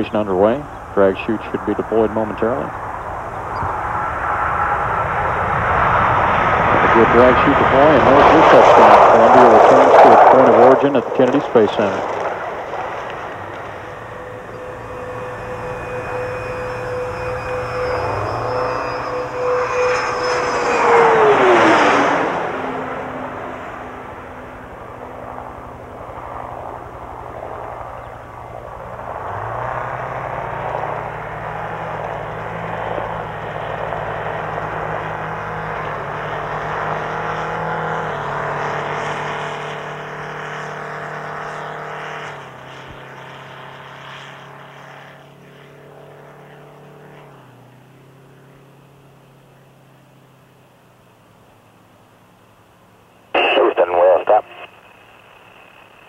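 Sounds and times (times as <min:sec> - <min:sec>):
spacecraft rolling on runway: 0:00.0 - 0:39.8, 0:42.3 - 0:56.0
jet passing: 0:00.0 - 0:51.1, 0:51.8 - 0:56.0.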